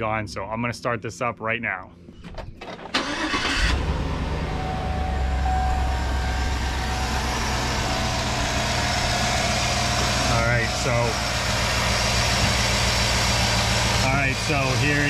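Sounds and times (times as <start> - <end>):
car engine cranking and idling: 2.4 - 15.0.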